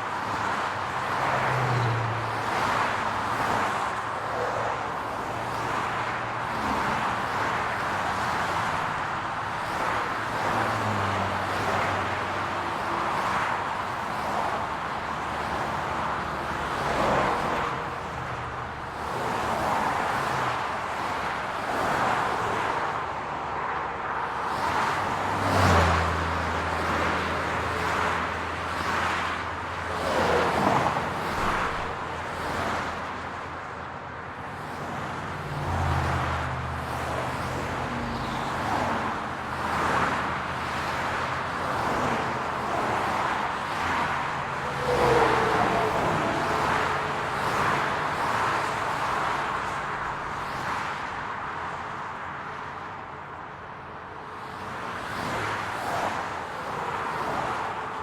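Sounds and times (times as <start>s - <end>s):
tyre and road noise: 0.0s - 58.0s
cars passing by whoosh: 0.1s - 33.7s, 34.4s - 53.4s, 54.2s - 58.0s.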